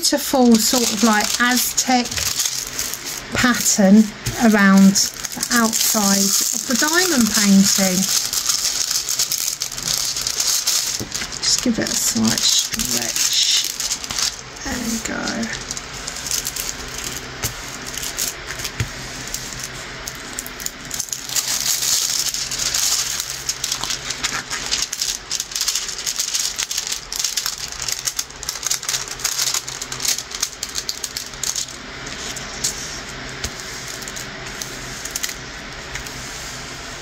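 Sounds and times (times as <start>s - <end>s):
stiff canvas and plastic crinkling: 0.0s - 36.0s.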